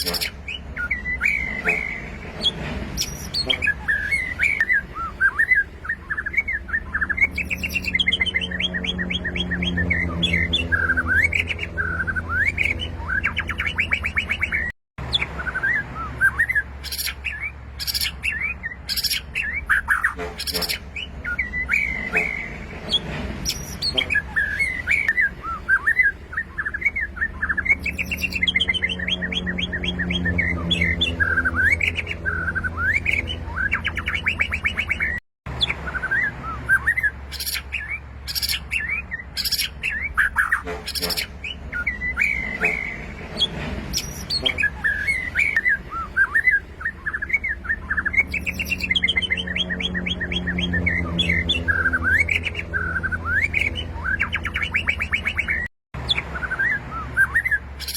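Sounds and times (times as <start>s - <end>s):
bird singing whistled phrases: 0.0s - 57.9s.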